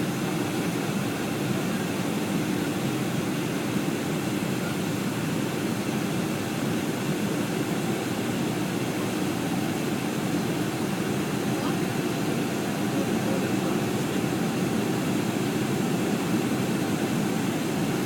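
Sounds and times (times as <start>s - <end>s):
jet cabin engine rush: 0.0s - 18.0s.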